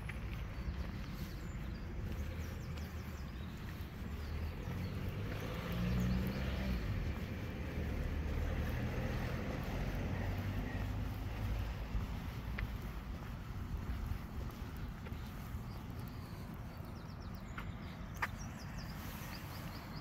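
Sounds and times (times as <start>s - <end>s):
road traffic rumbling: 0.0s - 20.0s
vehicle passing: 0.0s - 20.0s.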